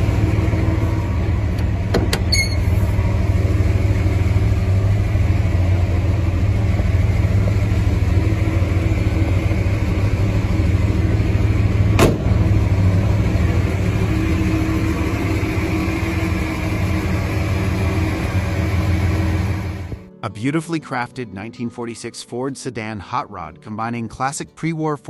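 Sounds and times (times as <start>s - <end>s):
engine idling: 0.0s - 20.1s.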